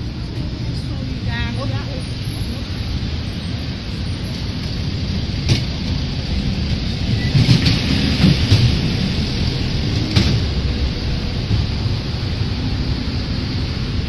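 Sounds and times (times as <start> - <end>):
busy road traffic rumble: 0.0 - 14.0.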